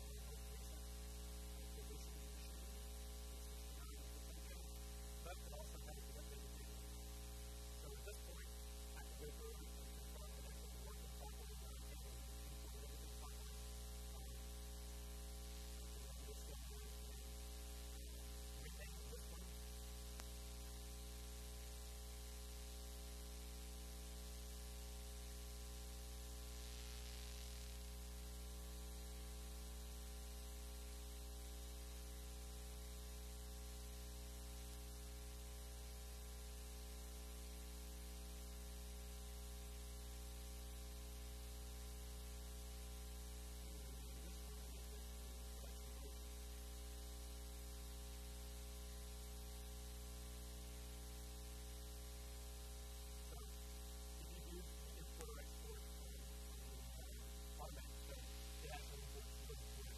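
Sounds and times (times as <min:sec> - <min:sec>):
electrical mains hum: 0:00.0 - 0:59.9
faint hiss: 0:00.0 - 0:59.9.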